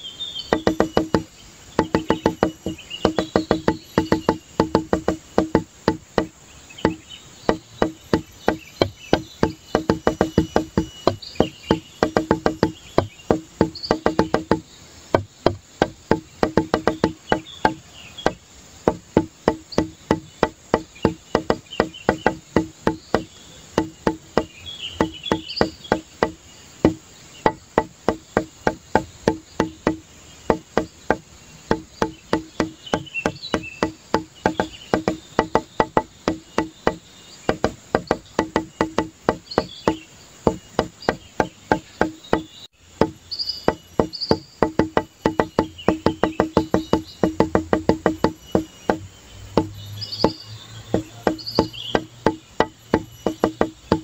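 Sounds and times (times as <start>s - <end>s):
fast clicky beat music: 0.5s - 54.0s.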